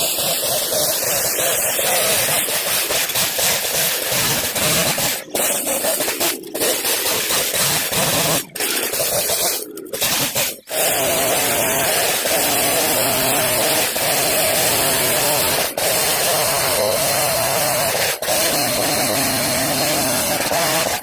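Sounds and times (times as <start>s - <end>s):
chainsaw cutting branches: 0.0s - 21.0s.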